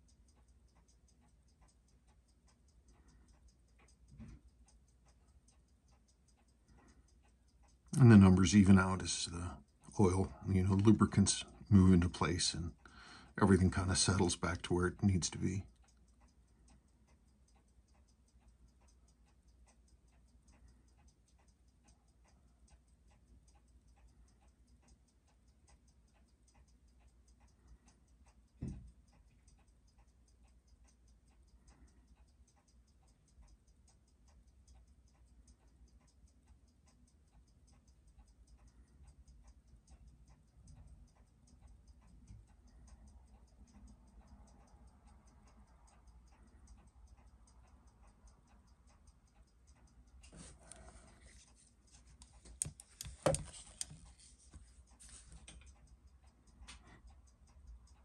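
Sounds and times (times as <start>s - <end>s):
watch ticking faintly: 0.0s - 58.0s.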